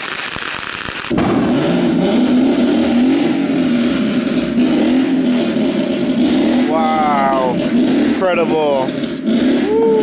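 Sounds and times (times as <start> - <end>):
car engine revving: 1.1 - 10.0.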